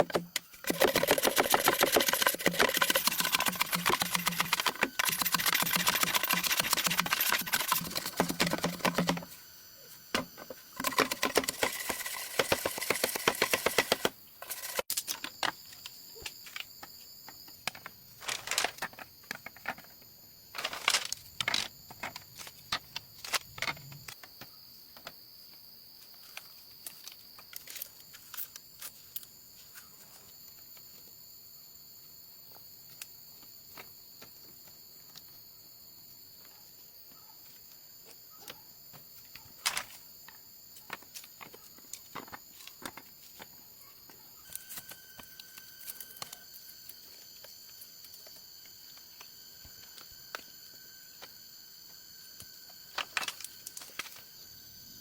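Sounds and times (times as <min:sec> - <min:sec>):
high insect drone: 0:00.1 - 0:55.0.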